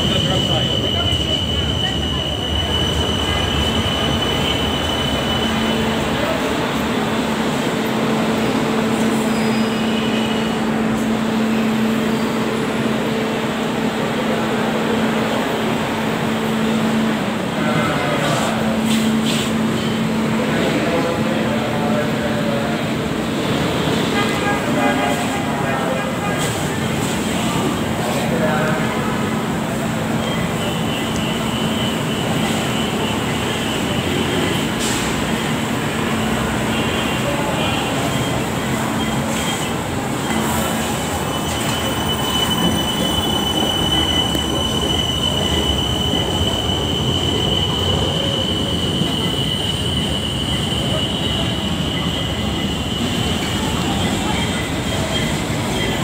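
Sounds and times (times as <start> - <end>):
light rail train running: 0.0 - 56.0.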